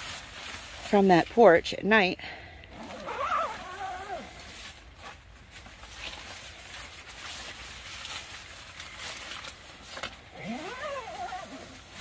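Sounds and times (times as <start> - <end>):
tent fabric rustling and flapping: 0.0 - 1.4, 2.7 - 12.0.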